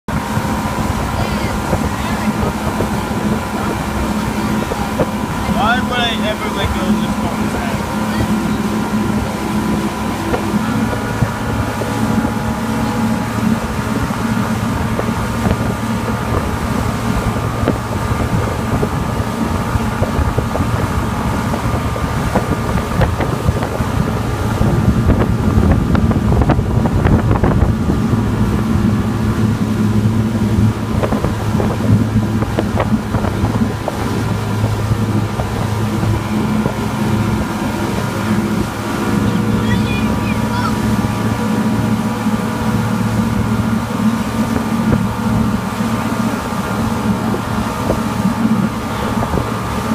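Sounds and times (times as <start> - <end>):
outboard motor droning: 0.0 - 49.9
rushing boat wake: 0.0 - 49.9
wind buffeting microphone: 0.1 - 49.9.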